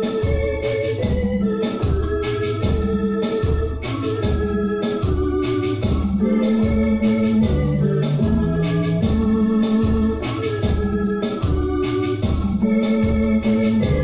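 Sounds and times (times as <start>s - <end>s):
keyboard organ chords: 0.0s - 14.0s
low repeating pulse: 2.6s - 14.0s.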